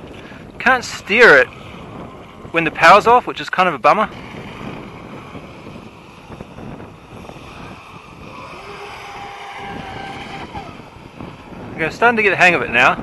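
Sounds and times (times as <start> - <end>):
model boat motor whine: 0.0 - 13.0
wind noise on microphone: 0.0 - 13.0.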